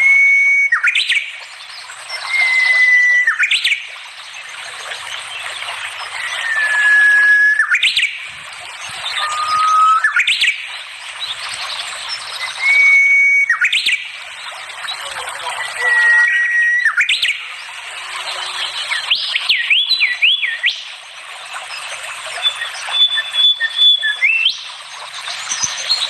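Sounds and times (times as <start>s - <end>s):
songbird whistled song: 0.0s - 3.9s, 5.4s - 8.3s, 8.9s - 14.2s, 14.8s - 17.7s, 18.3s - 20.9s, 21.6s - 26.0s.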